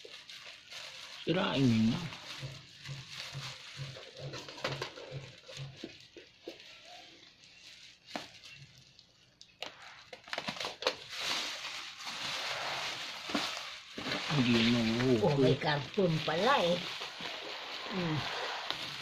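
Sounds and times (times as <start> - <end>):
plastic bag crinkling and rustling: 0.0 - 19.0.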